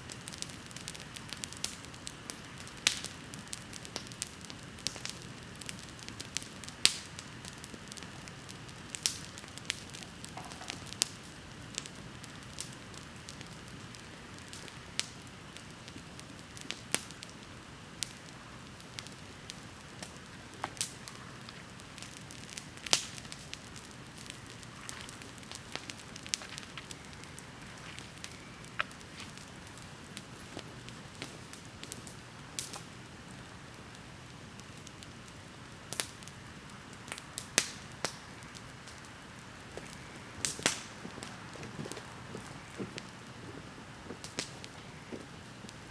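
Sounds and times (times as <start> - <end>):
bonfire crackling and popping: 0.0 - 45.9
faint steady hiss: 0.0 - 45.9.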